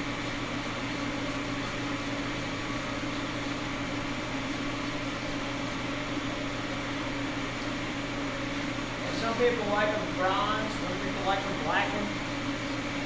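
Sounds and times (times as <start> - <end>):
electric fan motor whirring: 0.0 - 13.0.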